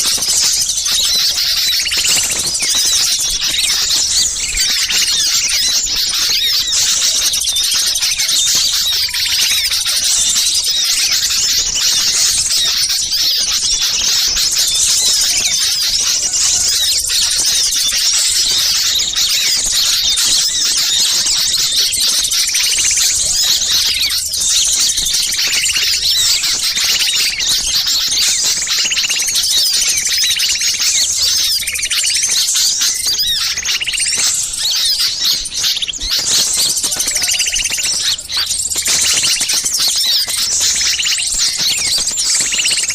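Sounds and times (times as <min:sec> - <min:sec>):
small songbirds chattering: 0:00.0 - 0:42.9.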